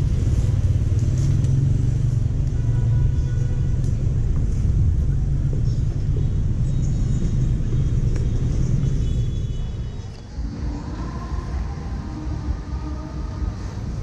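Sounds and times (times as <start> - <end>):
low traffic rumble: 0.0 - 14.0
motorbike engines in traffic: 0.0 - 14.0.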